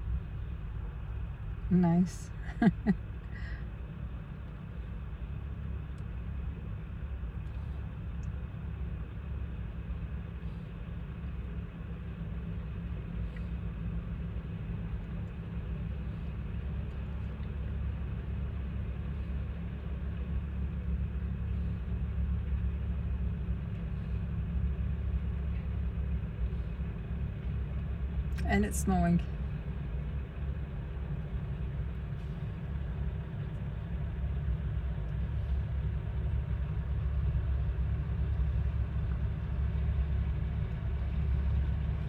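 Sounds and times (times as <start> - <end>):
truck engines rumbling: 0.0 - 42.0.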